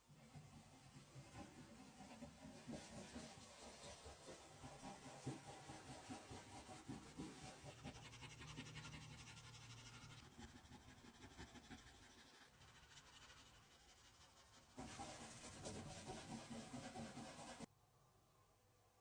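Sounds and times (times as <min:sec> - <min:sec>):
faint scratching and rubbing: 0:00.0 - 0:17.7.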